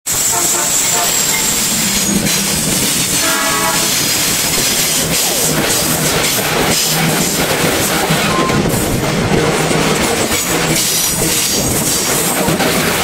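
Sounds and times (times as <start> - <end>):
train wheels rumbling on rails: 0.0 - 13.0
wheel clacks over rail joints: 1.1 - 13.0.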